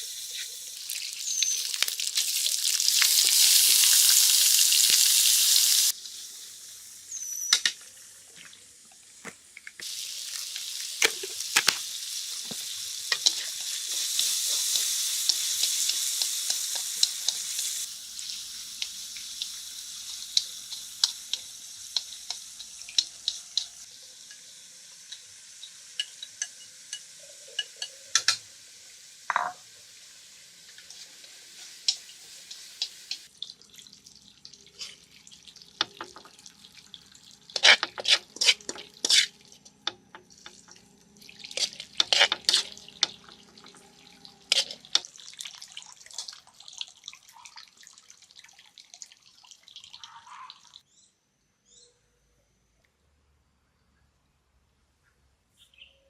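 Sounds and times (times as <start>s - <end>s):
food sizzling in a pan: 0.0s - 50.8s.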